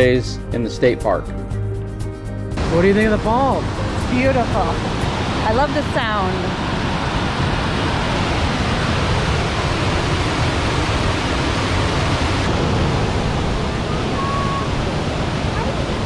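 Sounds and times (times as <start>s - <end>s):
waterfall rushing: 2.6s - 16.0s.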